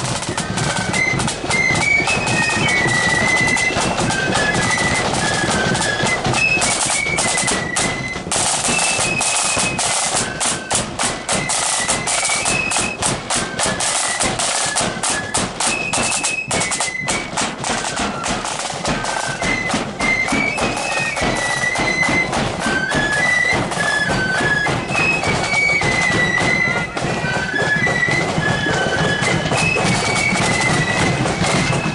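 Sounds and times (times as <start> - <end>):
flutes playing high melody: 0.0 - 31.9
rapid drumming: 0.0 - 31.9.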